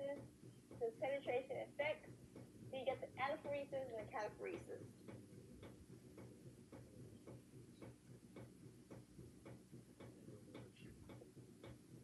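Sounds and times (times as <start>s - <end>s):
faint regular ticking: 0.0s - 12.0s
low room hum: 0.0s - 12.0s.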